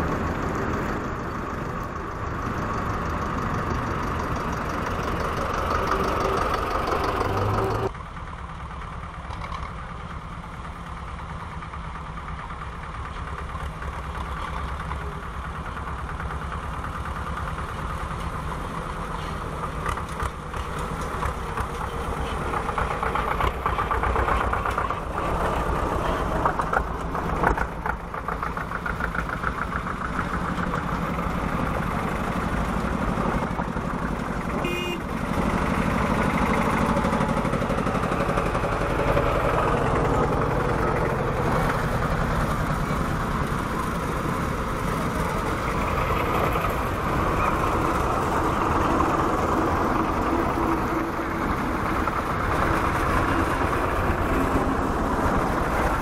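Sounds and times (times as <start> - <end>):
tractor engines chugging: 0.0 - 56.0.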